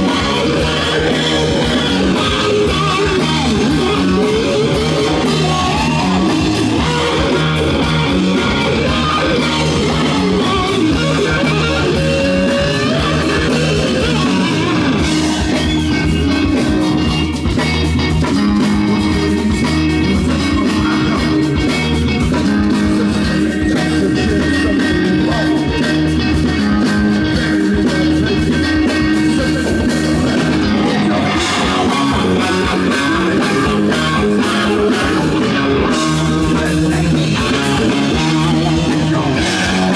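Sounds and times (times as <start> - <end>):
drums with cymbals: 0.0 - 39.9
live rock band playing: 0.0 - 39.9.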